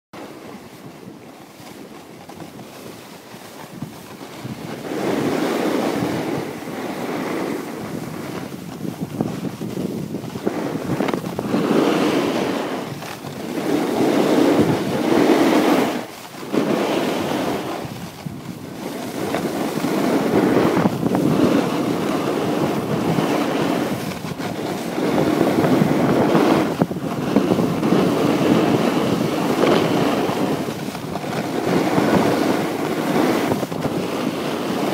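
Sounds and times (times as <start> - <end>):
snowboard scraping over snow: 0.2 - 34.9
wind rushing over microphone: 0.2 - 34.9.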